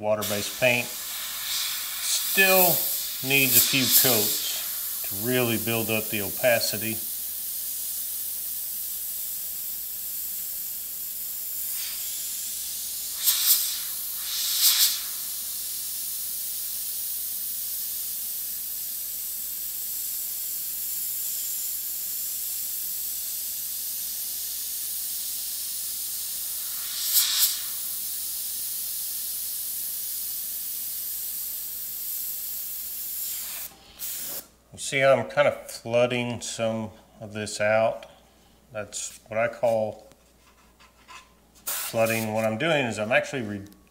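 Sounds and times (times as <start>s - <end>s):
airbrush air hiss: 0.0s - 34.6s, 41.0s - 43.4s
airbrush paint spurts: 0.2s - 34.5s, 41.6s - 42.6s.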